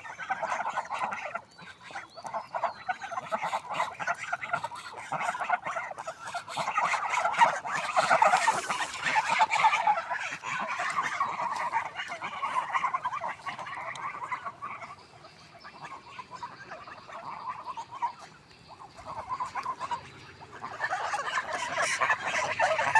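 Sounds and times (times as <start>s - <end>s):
swans honking: 0.3s - 22.9s.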